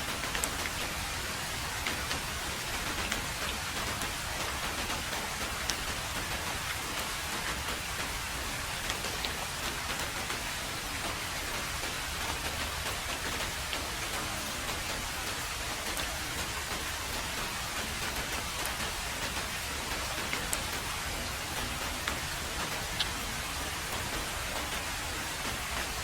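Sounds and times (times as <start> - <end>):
heavy rain on a road: 0.0 - 26.0
sharp ticks of raindrops: 0.0 - 26.0.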